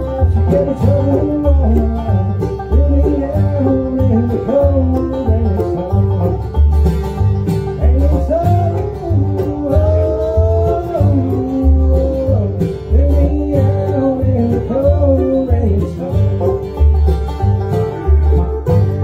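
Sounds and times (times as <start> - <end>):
bluegrass band playing: 0.0 - 19.0
upright bass: 0.0 - 19.0.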